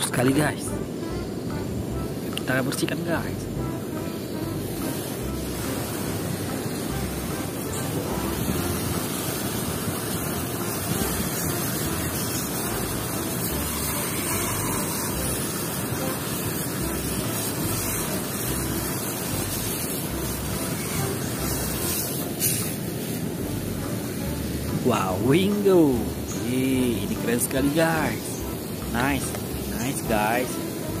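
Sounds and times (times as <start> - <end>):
water spraying: 0.0 - 31.0.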